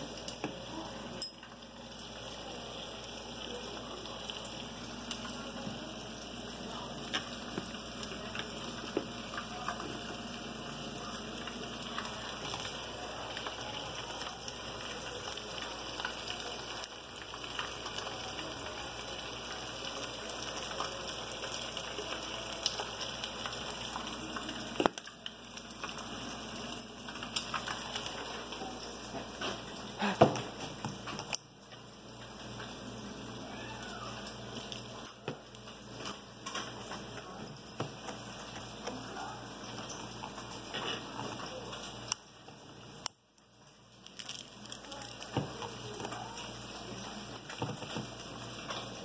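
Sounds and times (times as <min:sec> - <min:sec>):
fish sizzling in oil: 0:00.0 - 0:49.0.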